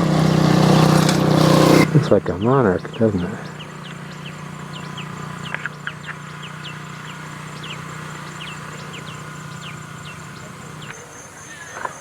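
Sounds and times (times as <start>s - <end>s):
steady low hum: 0.0s - 10.9s
birds chirping: 0.0s - 12.0s.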